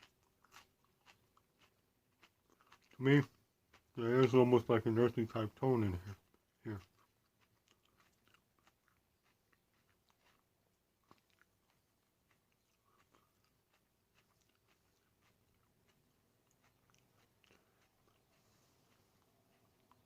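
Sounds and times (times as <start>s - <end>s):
person chewing pepper: 0.0s - 5.2s, 5.8s - 20.0s.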